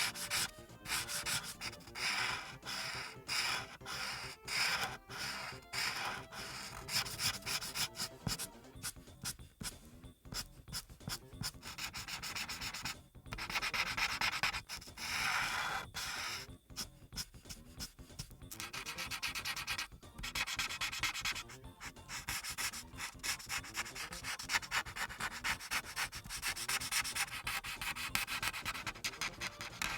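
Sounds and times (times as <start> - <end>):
marker nib rubbing on paper: 0.0 - 29.9.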